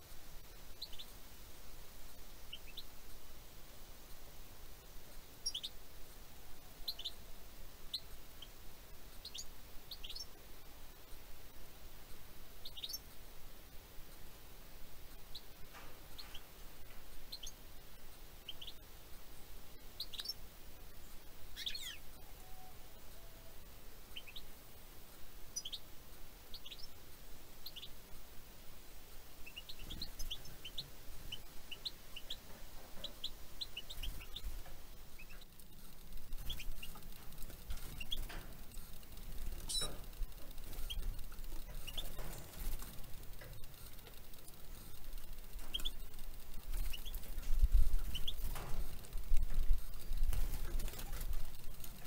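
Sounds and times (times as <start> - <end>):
faint low rumble: 0.0 - 52.0
songbirds chirping: 0.0 - 52.0.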